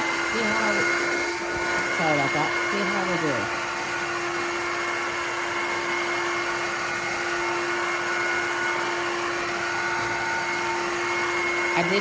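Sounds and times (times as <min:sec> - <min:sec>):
vacuum mop motor hum: 0:00.0 - 0:12.0.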